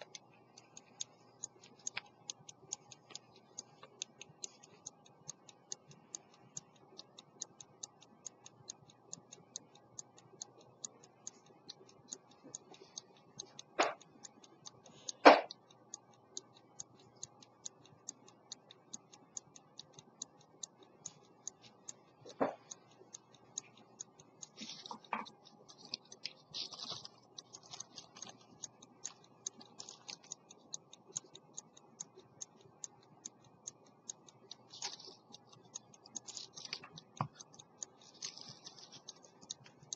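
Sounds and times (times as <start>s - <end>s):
pocket watch ticking: 0.0s - 39.9s.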